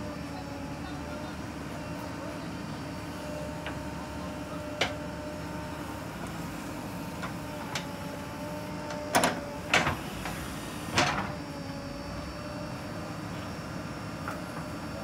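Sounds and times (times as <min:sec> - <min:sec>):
backhoe loader running: 0:00.0 - 0:15.0.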